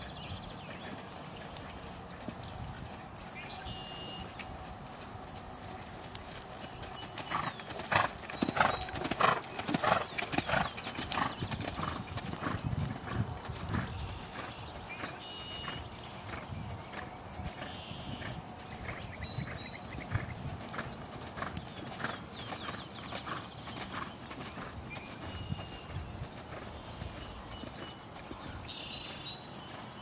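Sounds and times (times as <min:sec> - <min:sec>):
horse hoofbeats on grass: 0:00.0 - 0:30.0.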